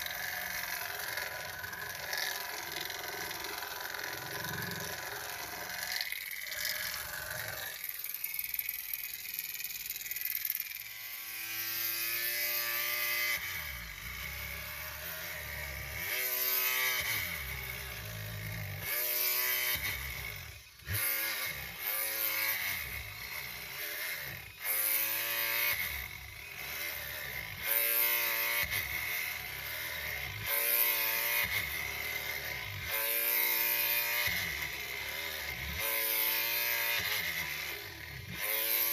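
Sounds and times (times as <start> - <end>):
small electric motor whining: 0.0 - 38.9.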